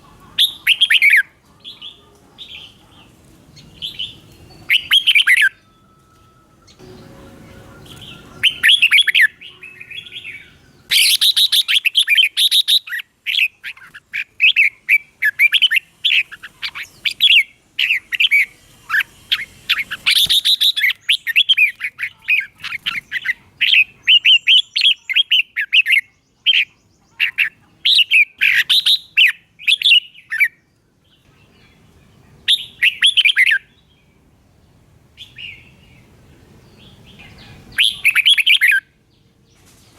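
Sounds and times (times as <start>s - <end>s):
bird singing quick chirps: 0.4s - 5.7s, 6.7s - 33.9s, 36.7s - 39.9s.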